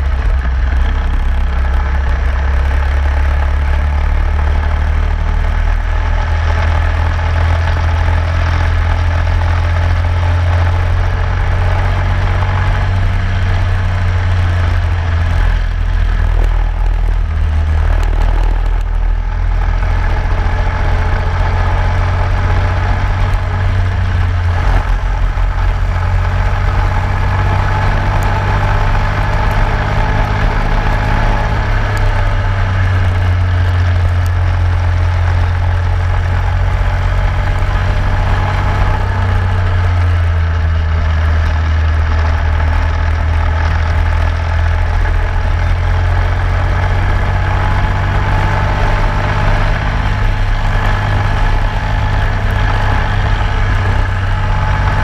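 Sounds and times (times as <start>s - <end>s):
go-kart engine at speed: 0.0s - 55.0s.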